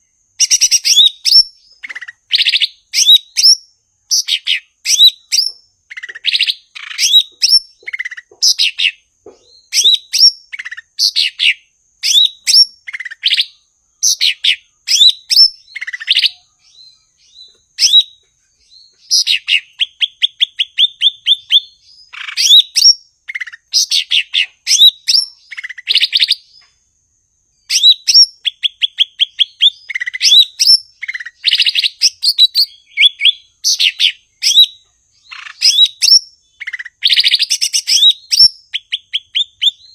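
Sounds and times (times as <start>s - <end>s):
bird rapid trill: 0.0s - 18.2s, 19.0s - 26.6s, 27.6s - 39.9s
bird singing whistled phrases: 0.4s - 9.0s, 9.6s - 26.7s, 27.6s - 39.9s.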